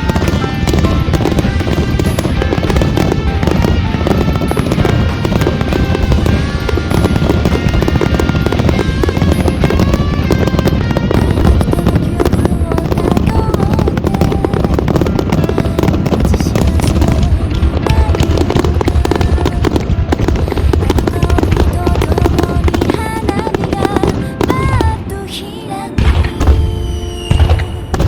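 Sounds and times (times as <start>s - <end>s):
fireworks crackling and popping: 0.0s - 28.0s
music playing: 0.0s - 28.0s.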